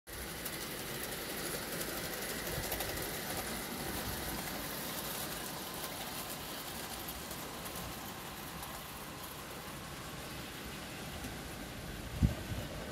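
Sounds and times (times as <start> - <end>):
model train running: 0.1 - 12.9.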